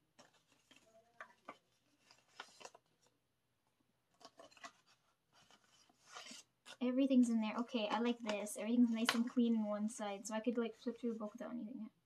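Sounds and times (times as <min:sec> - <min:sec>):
paper and card rustling: 0:00.0 - 0:03.2, 0:04.1 - 0:11.6.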